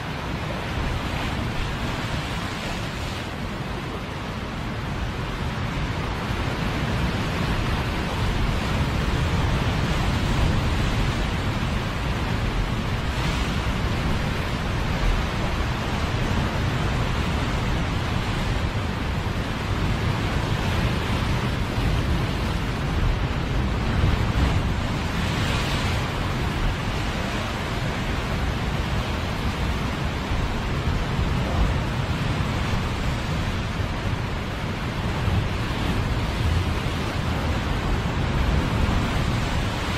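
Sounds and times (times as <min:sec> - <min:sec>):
ocean waves breaking on rocks: 0:00.0 - 0:39.9
wind rumble on microphone: 0:00.0 - 0:39.9.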